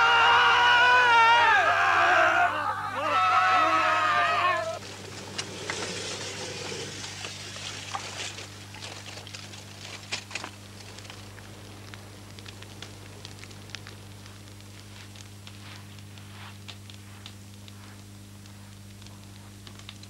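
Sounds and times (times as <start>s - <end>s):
steady low hum: 0.0s - 20.0s
fire crackling and popping: 3.5s - 20.0s.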